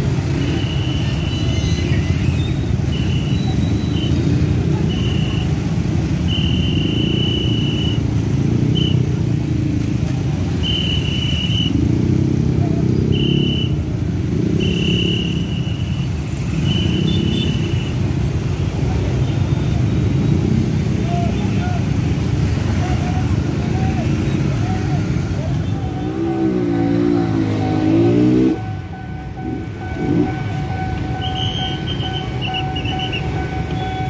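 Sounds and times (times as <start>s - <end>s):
engines idling in traffic: 0.0s - 34.0s.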